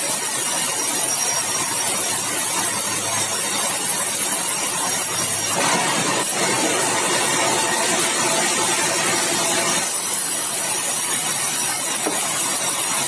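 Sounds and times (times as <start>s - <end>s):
band saw cutting wood: 0.0s - 13.0s.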